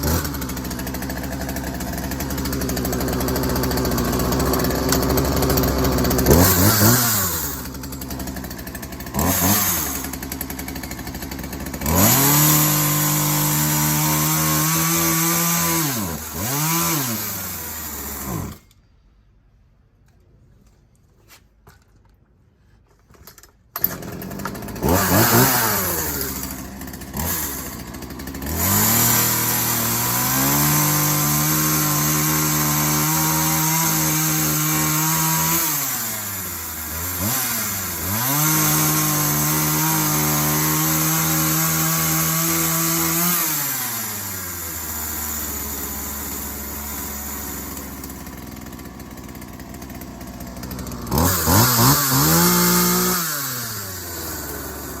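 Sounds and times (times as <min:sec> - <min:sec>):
chainsaw revving and idling: 0:00.0 - 0:18.7, 0:23.8 - 0:55.0
chainsaw cutting wood: 0:00.0 - 0:18.8, 0:23.3 - 0:55.0.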